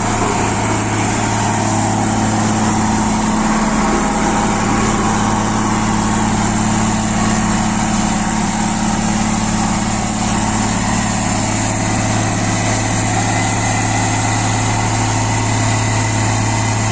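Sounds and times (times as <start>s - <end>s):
road roller diesel engine running: 0.0s - 16.9s.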